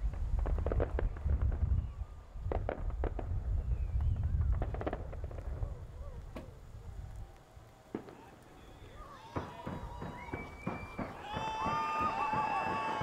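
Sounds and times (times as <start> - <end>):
fireworks booming: 0.0 - 13.0
fireworks sharp cracks: 0.0 - 13.0.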